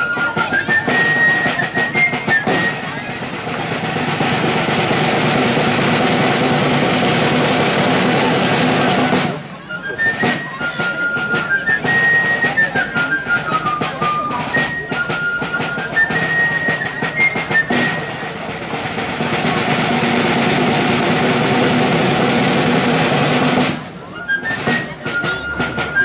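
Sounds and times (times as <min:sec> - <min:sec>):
folk dance band: 0:00.0 - 0:26.0
high wind instrument melody: 0:00.0 - 0:26.0.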